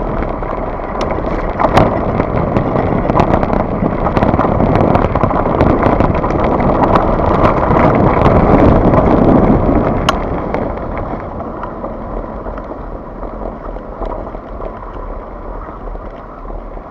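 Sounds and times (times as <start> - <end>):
bike rattling and knocking: 0.0 - 16.9
tyres rolling over gravel: 0.0 - 16.9
wind on microphone: 0.0 - 16.9.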